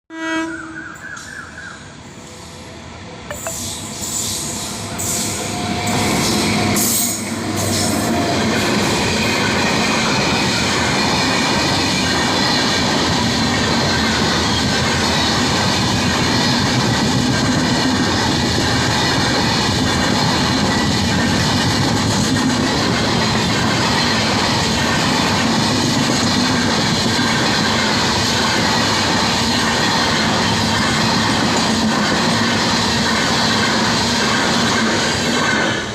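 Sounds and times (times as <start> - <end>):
train wheels rumbling on rails: 1.0 - 35.9.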